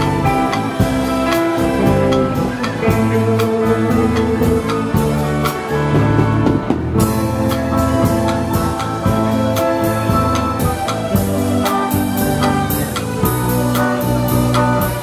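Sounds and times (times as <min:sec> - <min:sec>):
bass notes: 0:00.0 - 0:15.0
drum kit beat: 0:00.0 - 0:15.0
electric guitars: 0:00.0 - 0:15.0.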